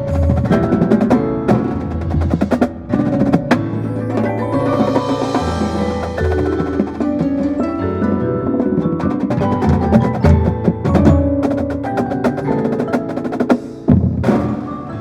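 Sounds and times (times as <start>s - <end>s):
drum strikes and rolls: 0.0s - 14.9s
mallet keyboard notes: 0.0s - 15.0s.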